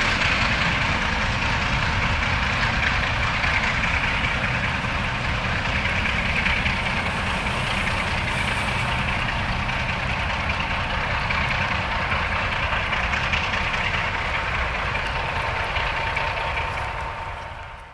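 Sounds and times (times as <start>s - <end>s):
diesel locomotive engines droning: 0.0s - 17.9s.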